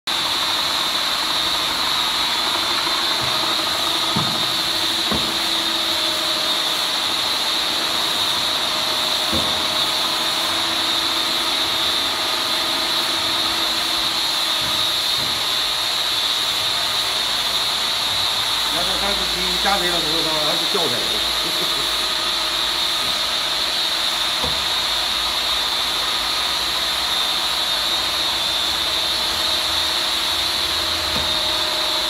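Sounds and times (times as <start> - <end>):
machinery hissing and whirring: 0.1 - 32.0.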